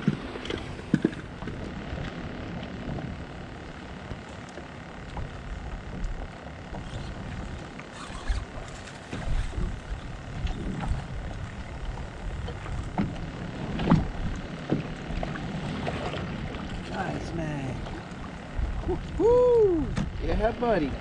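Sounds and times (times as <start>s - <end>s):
water against kayak hull: 0.0s - 21.0s
wind rumbling on microphone: 0.0s - 21.0s.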